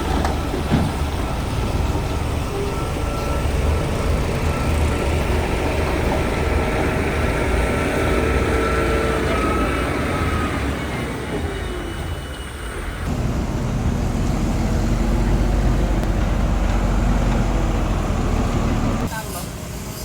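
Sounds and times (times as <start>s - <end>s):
diesel machinery rumbling: 0.0s - 19.3s.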